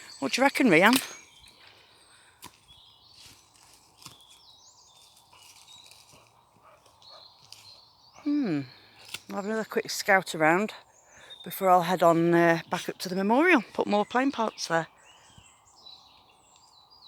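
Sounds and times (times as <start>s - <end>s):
distant birds chirping: 0.0s - 17.0s.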